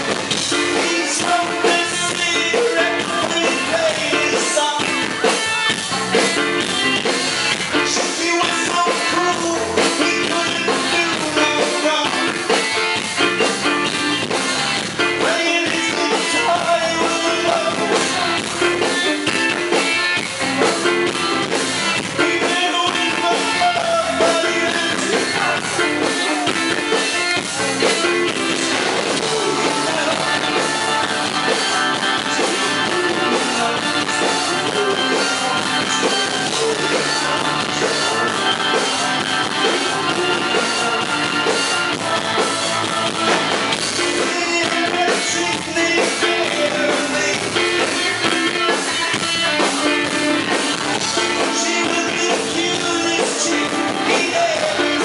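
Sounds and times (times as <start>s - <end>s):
drum kit beat: 0.0s - 55.0s
electric guitars: 0.0s - 55.0s
man singing lead vocals: 0.0s - 55.0s.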